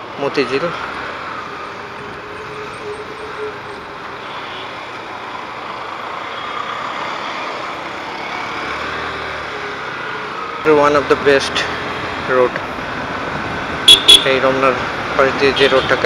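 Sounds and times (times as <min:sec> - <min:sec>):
other vehicles in traffic: 0:00.0 - 0:16.0
road noise rushing: 0:00.0 - 0:16.0.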